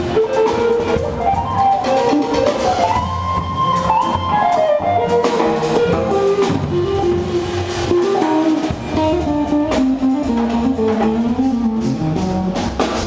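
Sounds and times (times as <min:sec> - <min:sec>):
jazz band playing blues: 0:00.0 - 0:13.0.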